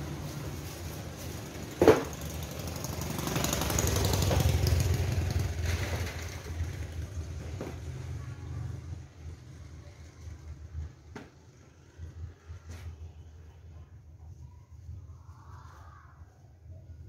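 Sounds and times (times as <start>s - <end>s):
passing traffic engine rumble: 0.0s - 14.0s.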